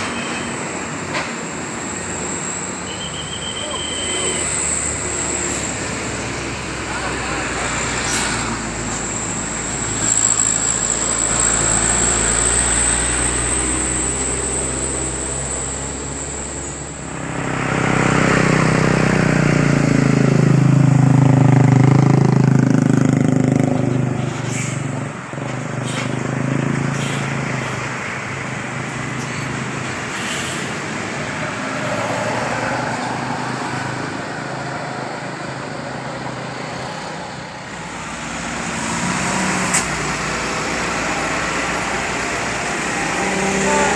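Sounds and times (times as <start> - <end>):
bus engine passing: 0.0 - 43.9
steady traffic noise: 0.0 - 43.9.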